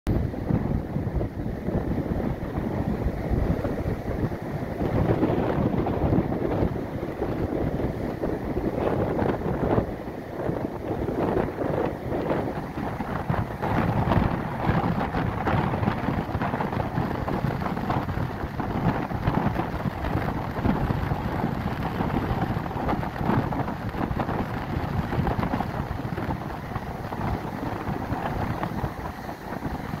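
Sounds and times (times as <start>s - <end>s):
wind buffeting microphone: 0.1s - 30.0s
surf breaking on rocks: 0.4s - 30.0s.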